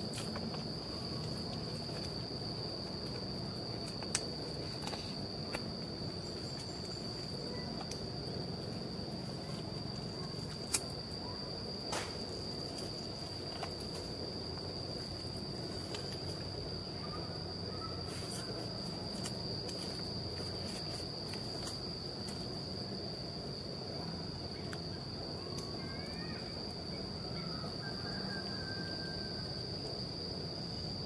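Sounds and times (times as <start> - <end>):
insect buzzing: 0.0 - 27.5.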